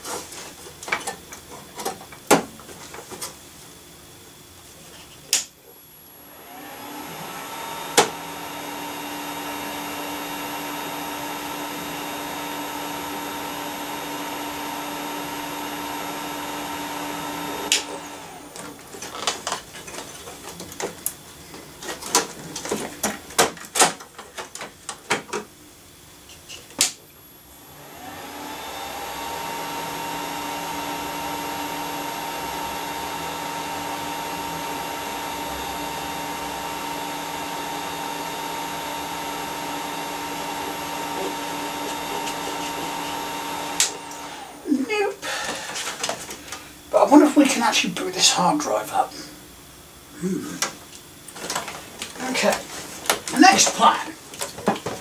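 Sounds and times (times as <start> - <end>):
server cooling fans whirring: 0.0 - 55.0.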